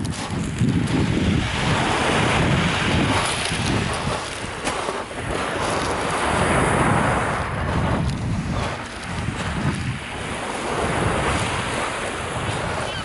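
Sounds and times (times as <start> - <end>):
waves washing onto shingle: 0.0 - 13.0
wind buffeting microphone: 0.0 - 13.0.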